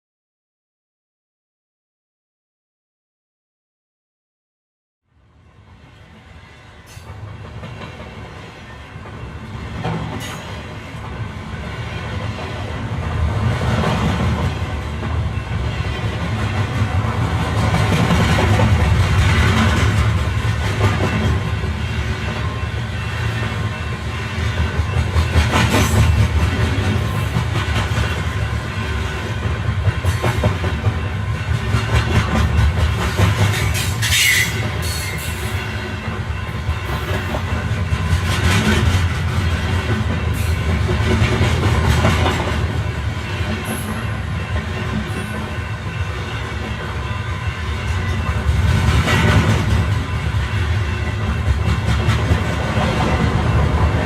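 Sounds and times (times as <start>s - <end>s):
electric train rumbling on rails: 5.1s - 54.0s.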